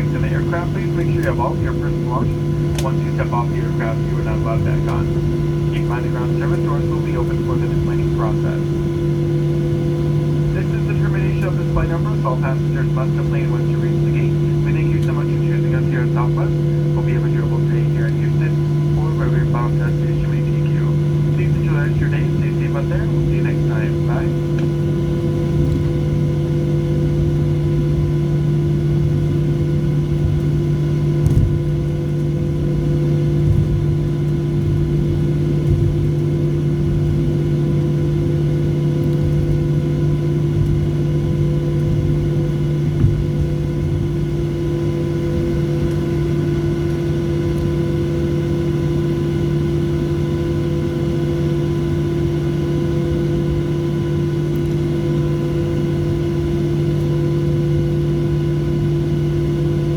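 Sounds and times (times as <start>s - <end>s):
aircraft cabin engine drone: 0.0s - 59.9s.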